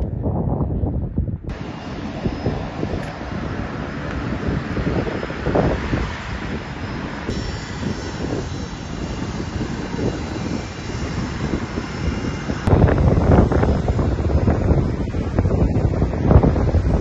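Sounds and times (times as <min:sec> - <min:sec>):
wind on microphone: 0:00.0 - 0:17.0
aircraft engine running: 0:01.4 - 0:17.0.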